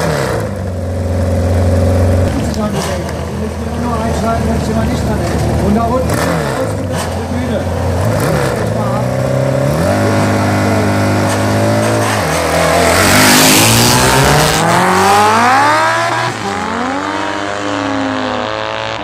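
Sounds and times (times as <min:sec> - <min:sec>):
motorcycle revving and accelerating: 0:00.0 - 0:19.0.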